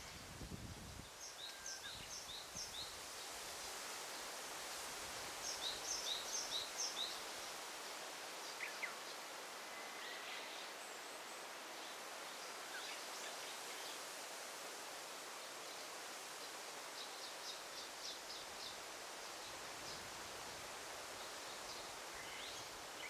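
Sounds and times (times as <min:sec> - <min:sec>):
leaves rustling: 0:00.0 - 0:23.0.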